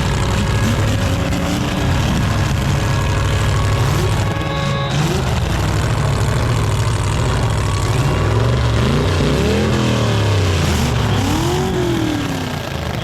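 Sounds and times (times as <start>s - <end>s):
car engines revving loudly: 0.0s - 13.0s.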